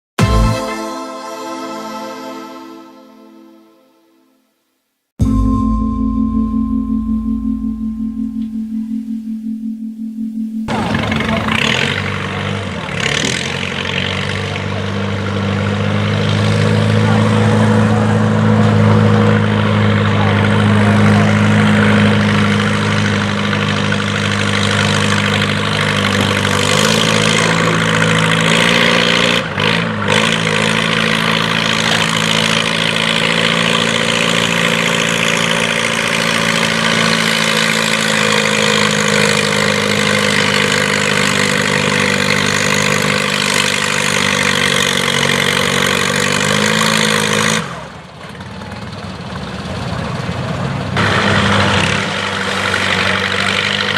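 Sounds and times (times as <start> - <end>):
tractor engine running hard: 10.7 - 53.9.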